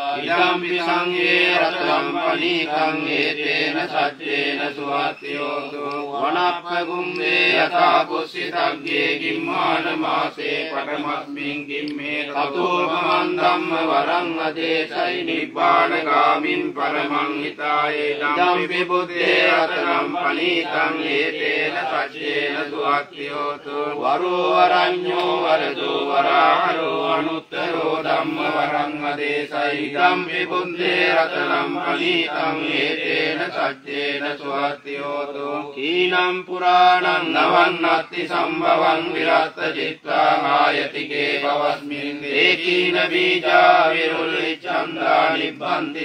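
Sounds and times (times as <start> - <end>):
men chanting in unison: 0.0 - 46.0.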